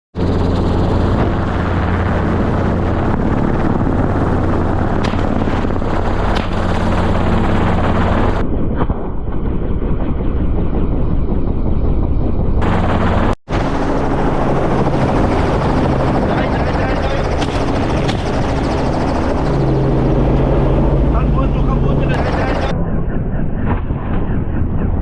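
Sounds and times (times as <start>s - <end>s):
helicopter rotor and engine: 0.2s - 25.0s.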